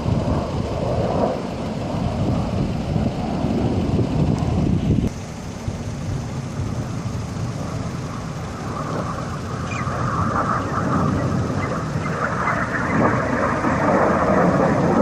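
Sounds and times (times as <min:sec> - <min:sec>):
jet aircraft engine roar: 0:00.0 - 0:15.0.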